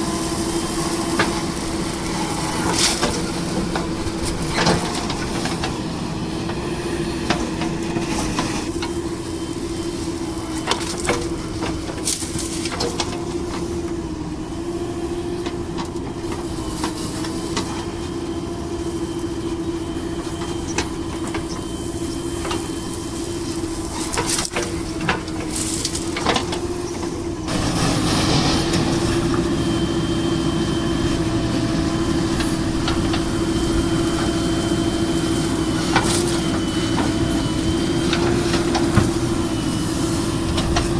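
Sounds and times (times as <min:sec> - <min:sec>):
heavy diesel machinery droning: 0:00.0 - 0:40.9.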